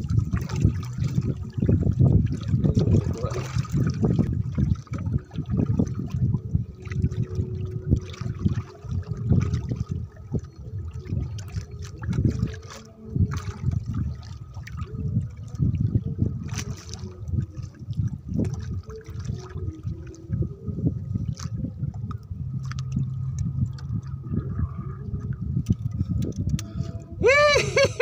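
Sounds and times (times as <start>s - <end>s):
water lapping against boat hull: 0.0s - 28.0s.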